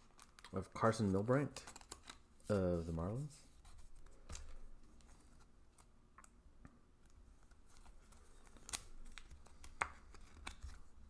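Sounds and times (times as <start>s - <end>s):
cards being handled: 0.0s - 5.9s, 7.1s - 11.0s.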